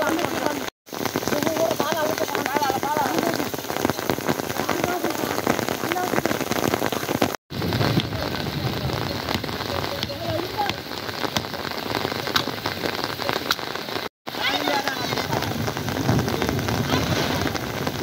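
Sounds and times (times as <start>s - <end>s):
raindrops clicking close by: 0.0s - 18.0s
steady rain: 0.0s - 18.0s.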